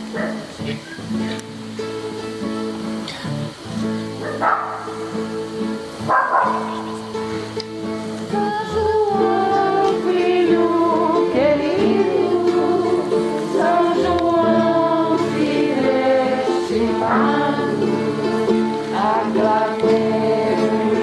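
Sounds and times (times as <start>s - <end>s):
group of voices singing: 1.9s - 21.0s.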